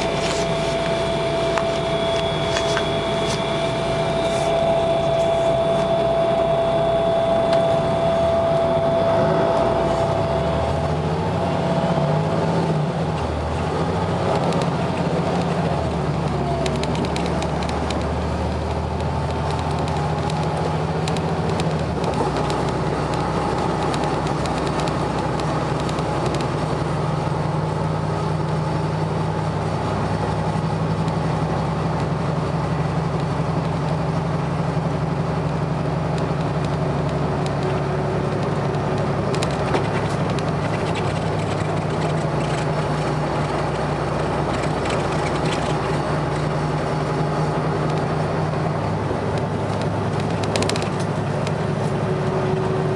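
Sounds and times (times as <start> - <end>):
bus diesel engine humming: 0.0 - 52.9.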